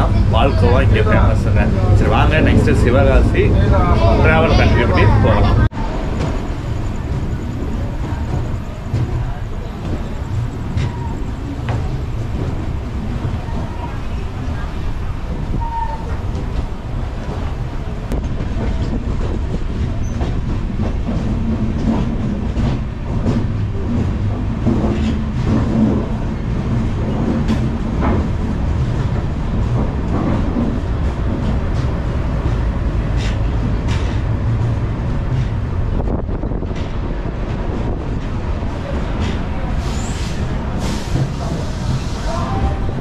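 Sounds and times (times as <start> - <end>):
train coach rumbling on rails: 0.0 - 43.0.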